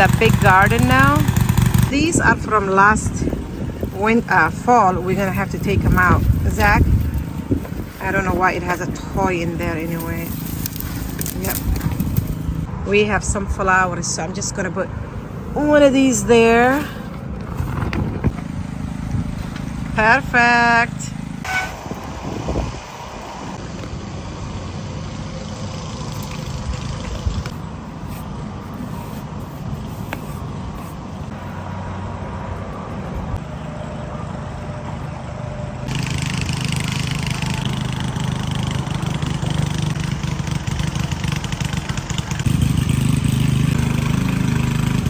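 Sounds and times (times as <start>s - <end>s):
garden tiller petrol engine running: 0.0s - 12.8s, 15.0s - 31.6s, 33.2s - 45.0s.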